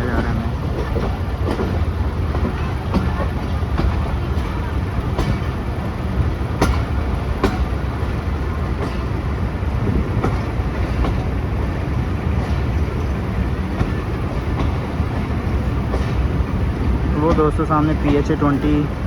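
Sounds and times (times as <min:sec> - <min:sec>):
train rumble: 0:00.0 - 0:19.0
wheels clacking over rail joints: 0:00.0 - 0:19.0.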